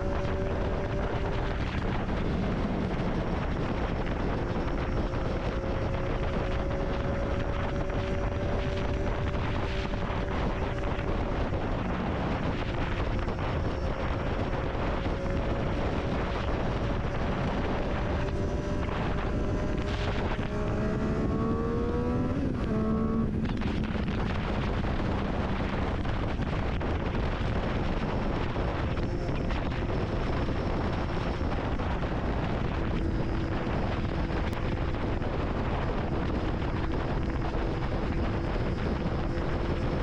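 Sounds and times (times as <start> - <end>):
motorcycle engine cruising: 0.0 - 40.0
wind on microphone: 0.0 - 40.0.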